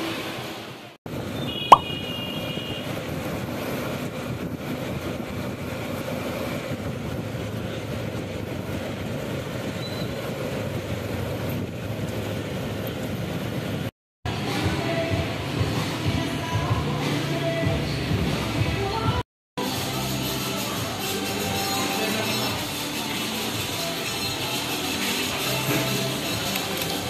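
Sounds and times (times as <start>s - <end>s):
road and engine noise: 0.0s - 27.0s.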